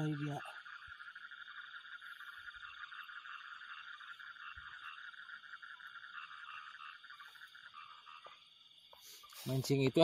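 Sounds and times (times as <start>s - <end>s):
frogs trilling: 0.0s - 10.0s.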